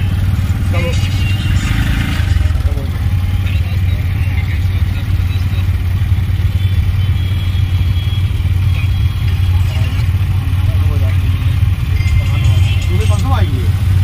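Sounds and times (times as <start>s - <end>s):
auto-rickshaw engine droning: 0.0s - 14.0s
surrounding traffic engines: 0.0s - 14.0s.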